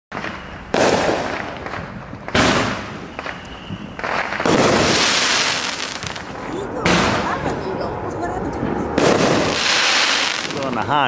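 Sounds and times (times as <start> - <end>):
fireworks bangs with crackling: 0.1 - 11.0.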